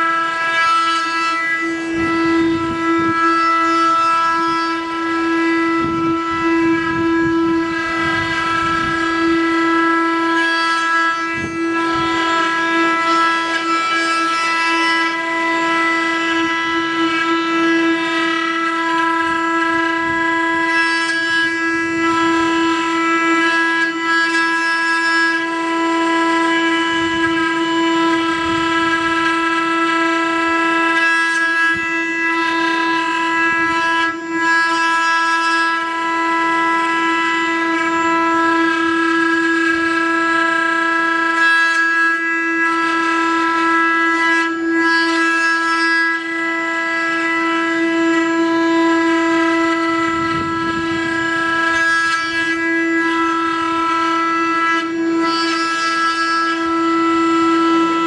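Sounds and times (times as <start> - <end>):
router spindles whining: 0.0 - 58.0
wood cutting noise: 0.0 - 58.0.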